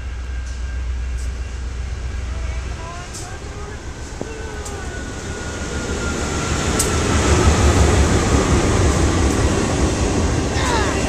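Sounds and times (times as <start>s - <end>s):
locomotives passing at speed: 1.6s - 11.0s.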